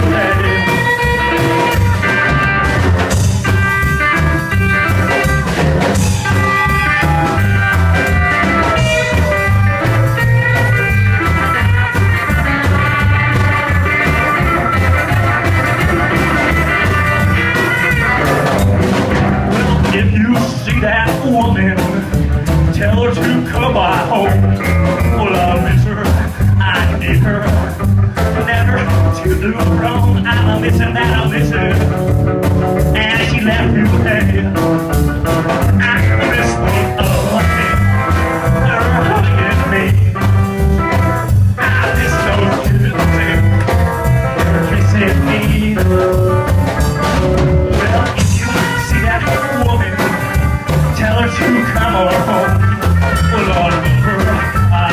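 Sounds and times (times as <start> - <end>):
acoustic guitar: 0.0 - 54.9
drum kit: 0.0 - 54.9
electric guitar: 0.0 - 54.9
upright bass: 0.0 - 54.9.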